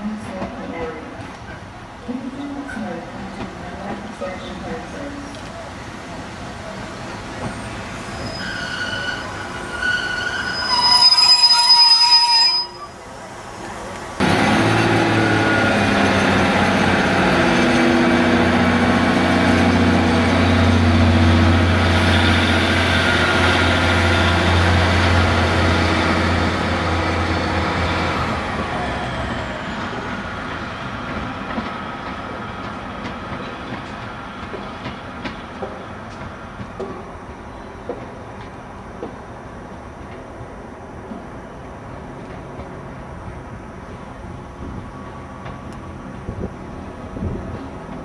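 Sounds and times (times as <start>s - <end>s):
diesel train engines droning: 0.0s - 39.0s.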